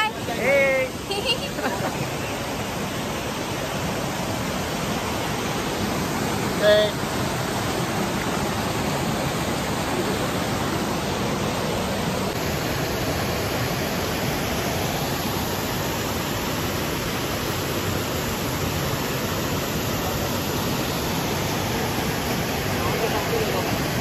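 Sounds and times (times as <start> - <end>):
waterfall pouring into pool: 0.4 - 24.0.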